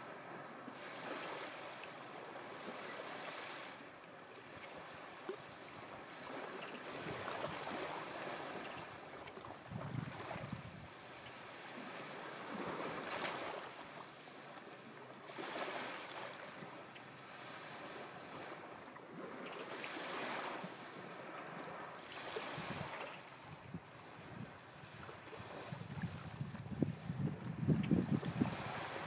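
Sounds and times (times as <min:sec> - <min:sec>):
waves breaking on beach: 0:00.0 - 0:29.0.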